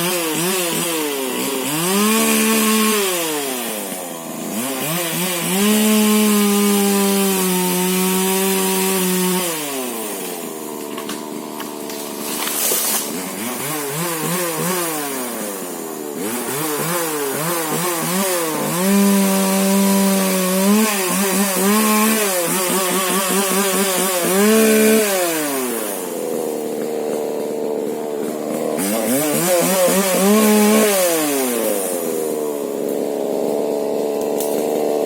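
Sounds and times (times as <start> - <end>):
chainsaw cutting wood: 0.0 - 35.0
chainsaw revving: 0.0 - 35.0.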